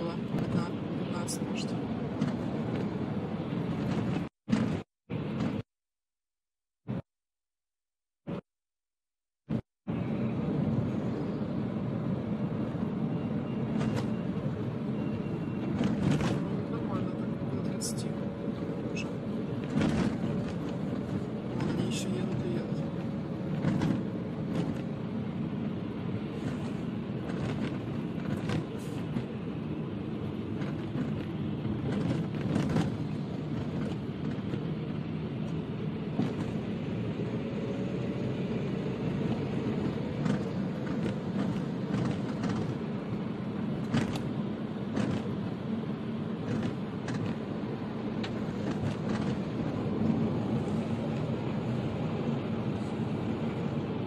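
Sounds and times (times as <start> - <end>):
car cabin road and engine rumble: 0.0 - 5.7, 6.8 - 7.1, 9.5 - 54.0.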